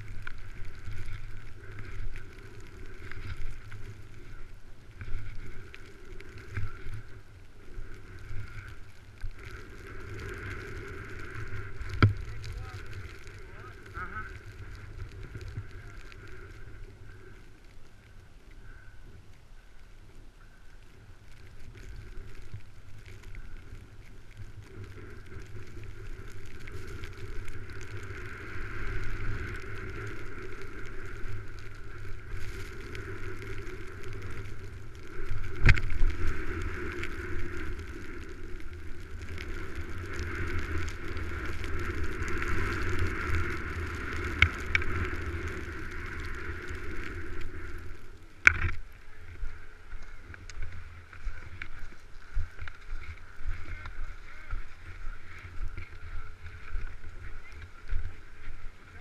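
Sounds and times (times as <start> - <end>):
wind rushing over microphone: 0.0 - 19.3, 20.7 - 59.0
skis hissing over snow: 0.0 - 19.8, 20.4 - 59.0.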